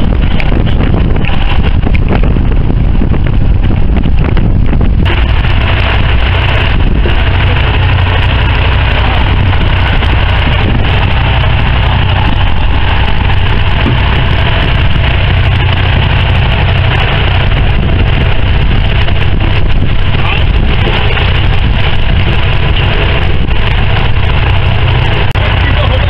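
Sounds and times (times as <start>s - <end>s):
boat engine humming: 0.0s - 26.0s
wind noise: 0.0s - 26.0s.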